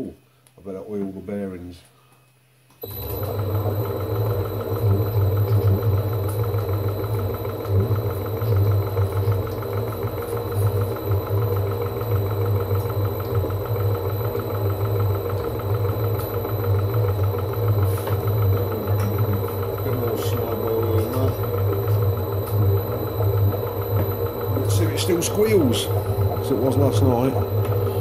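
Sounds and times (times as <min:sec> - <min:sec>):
lathe humming and clattering: 0:02.8 - 0:28.0.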